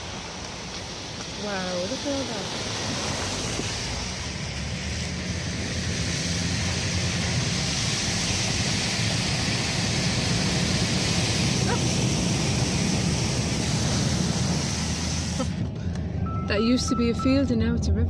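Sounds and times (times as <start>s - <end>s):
water spray against car: 0.0s - 15.7s.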